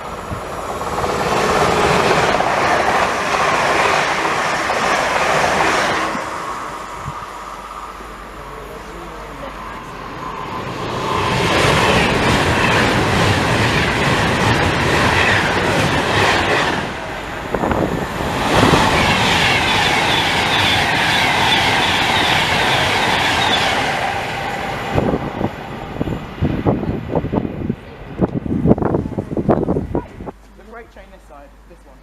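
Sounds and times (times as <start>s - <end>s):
train wheels rushing on rails: 0.0s - 30.4s.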